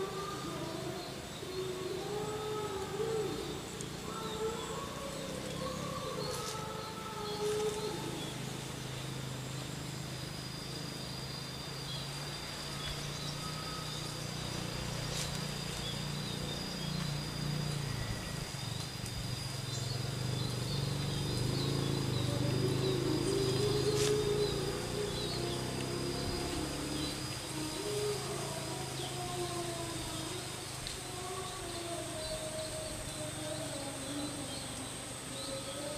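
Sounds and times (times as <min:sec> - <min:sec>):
bird chirps: 0:00.0 - 0:30.6
high-pitched insect drone: 0:00.0 - 0:35.9
low wavering hum: 0:00.0 - 0:35.9.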